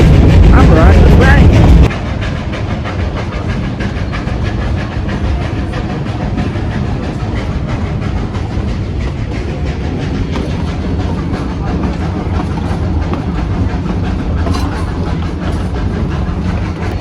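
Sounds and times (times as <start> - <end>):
train rumbling along rails: 0.0 - 17.0
wheels clicking over rail joints: 3.0 - 17.0.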